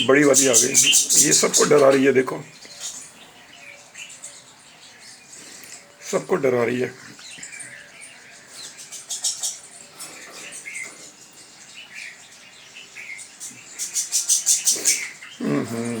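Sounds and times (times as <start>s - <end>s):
small birds chirping and chattering: 0.0s - 16.0s.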